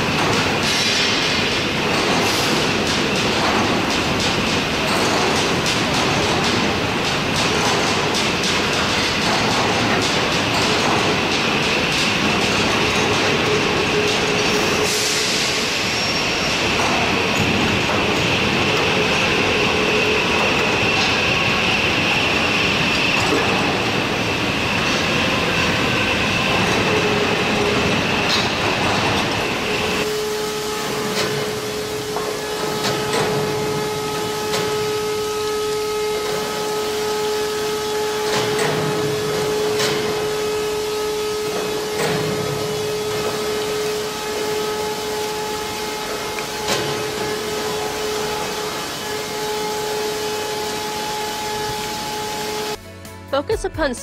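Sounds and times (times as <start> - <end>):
machinery rushing with high whine: 0.0 - 52.8
multi-tone machinery hum: 0.0 - 52.8.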